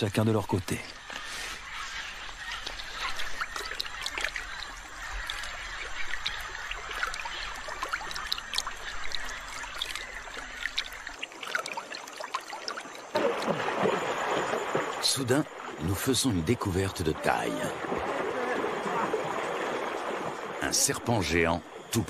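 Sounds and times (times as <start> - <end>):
river water trickling: 0.0 - 22.0
water drips and splashes: 0.0 - 22.0.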